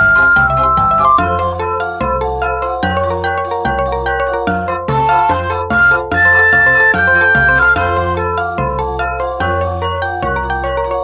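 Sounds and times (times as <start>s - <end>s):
upbeat music: 0.0s - 11.0s.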